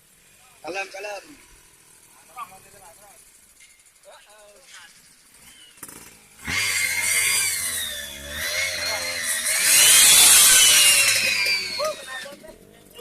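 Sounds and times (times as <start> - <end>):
small motorcycle engine revving: 0.0 - 13.0.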